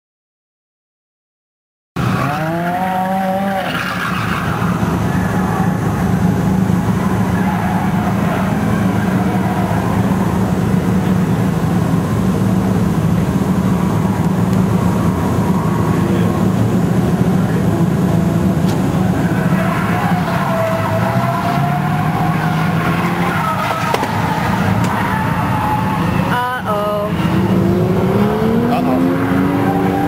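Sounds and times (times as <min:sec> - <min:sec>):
car engine idling: 0:02.9 - 0:30.0.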